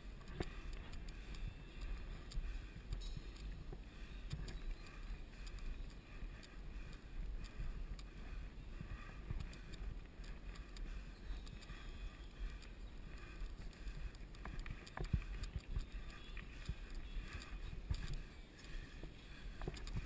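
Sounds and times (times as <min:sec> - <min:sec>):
bike clicks and rattles: 0:00.0 - 0:20.0
bike tyre noise on asphalt: 0:00.0 - 0:20.0.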